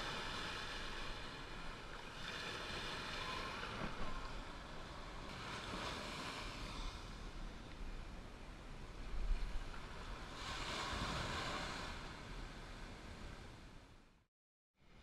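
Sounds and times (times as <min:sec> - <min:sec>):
surf washing up beach: 0:00.0 - 0:13.7
wind rumbling on microphone: 0:00.0 - 0:14.2.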